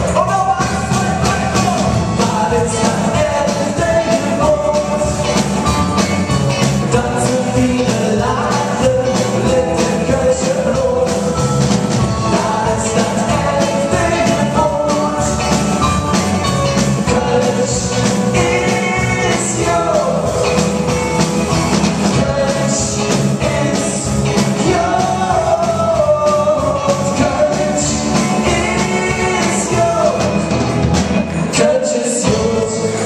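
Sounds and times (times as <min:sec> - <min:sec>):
lead singer singing: 0:00.0 - 0:33.0
live rock band playing: 0:00.0 - 0:33.0.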